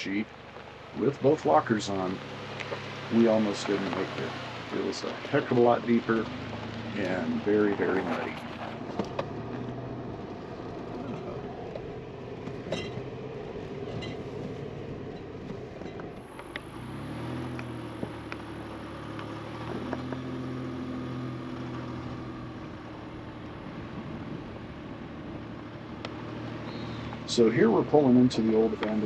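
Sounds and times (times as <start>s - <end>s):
knocks and rattles on bumpy road: 0.0s - 29.0s
vehicle engine running at low speed: 0.0s - 29.0s.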